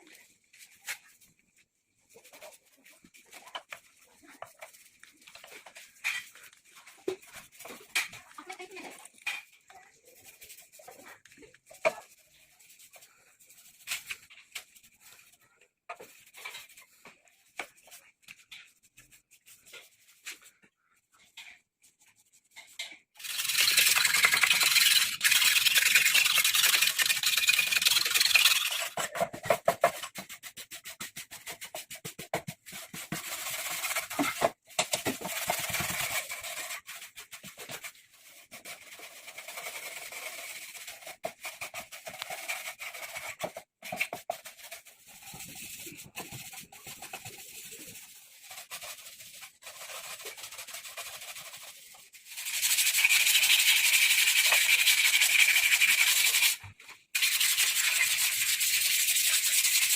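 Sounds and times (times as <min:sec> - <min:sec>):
sandpaper rasping on metal: 0:02.1 - 0:15.4, 0:22.0 - 0:56.6, 0:57.2 - 0:59.9.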